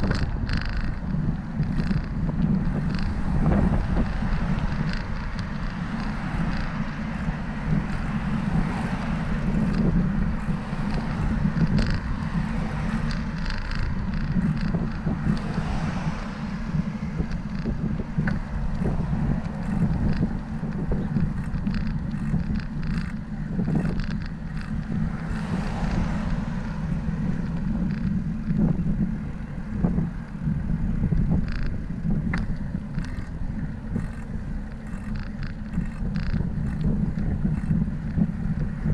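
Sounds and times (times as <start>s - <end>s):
short bicycle clicks: 0.0s - 38.9s
wind rushing over microphone: 0.0s - 38.9s.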